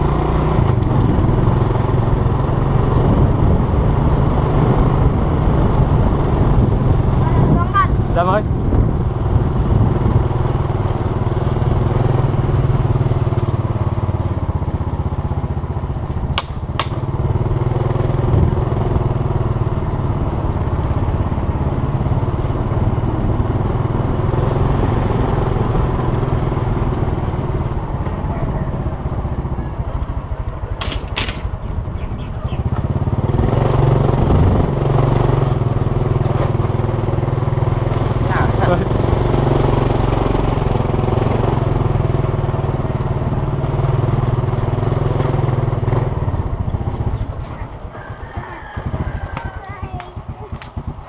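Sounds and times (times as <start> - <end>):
small motorcycle engine running: 0.0 - 51.0.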